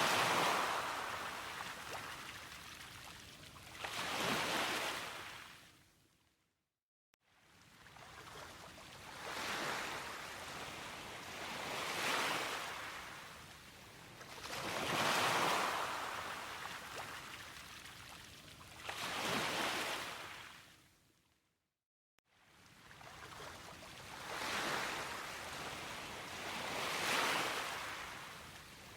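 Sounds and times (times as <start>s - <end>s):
small waves washing ashore: 0.0s - 5.7s, 7.3s - 20.6s, 22.4s - 28.9s.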